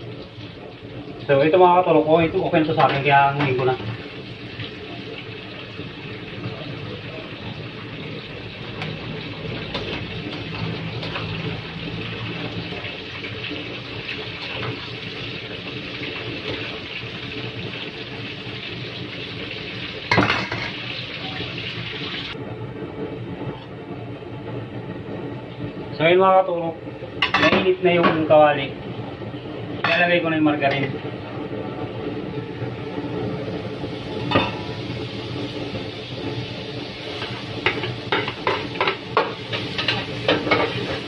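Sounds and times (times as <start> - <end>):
oil sizzling in a wok: 0.0 - 41.0.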